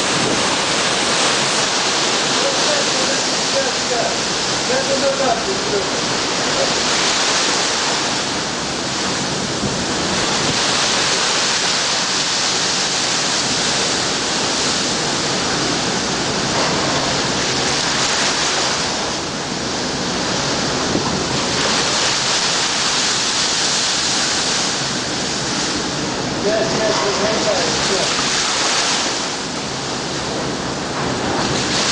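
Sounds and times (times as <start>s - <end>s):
water sloshing across steel deck: 0.0s - 31.9s.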